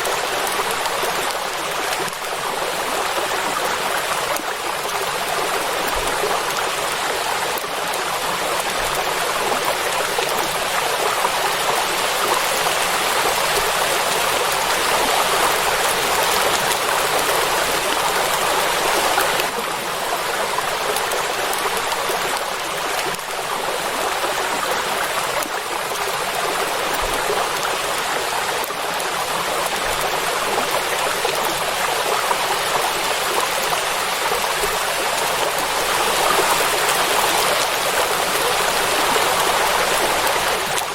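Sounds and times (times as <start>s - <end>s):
heavy rain on a lake: 0.0s - 40.9s.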